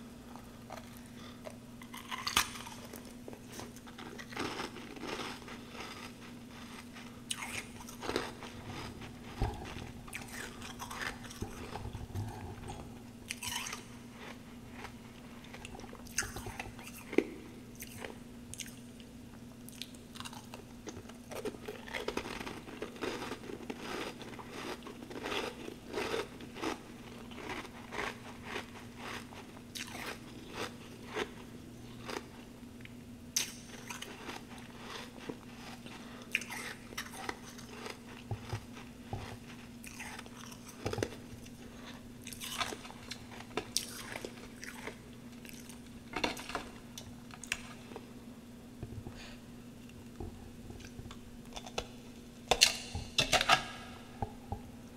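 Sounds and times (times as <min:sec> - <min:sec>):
crunching and chewing frost: 0:00.3 - 0:19.1, 0:19.7 - 0:48.1.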